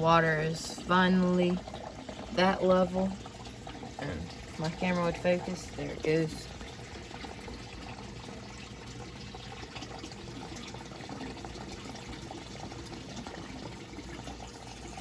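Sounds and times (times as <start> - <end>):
water pouring and splashing: 0.0 - 15.0.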